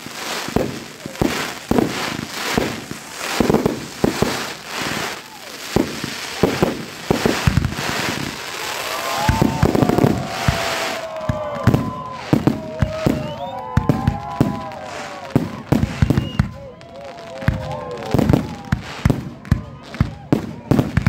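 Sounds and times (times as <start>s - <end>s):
fireworks bangs and crackle: 0.0s - 21.0s
fireworks whistling: 0.0s - 21.0s.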